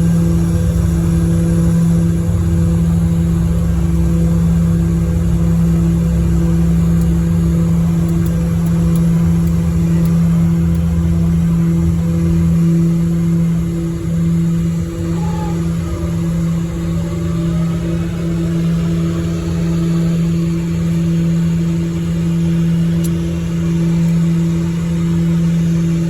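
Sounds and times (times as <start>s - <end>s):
turboprop engines droning: 0.0s - 26.0s.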